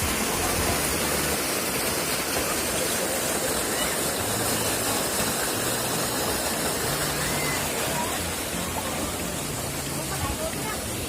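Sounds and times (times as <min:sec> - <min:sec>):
faint indistinct voices: 0:00.0 - 0:11.0
waterfall rushing: 0:00.0 - 0:11.0.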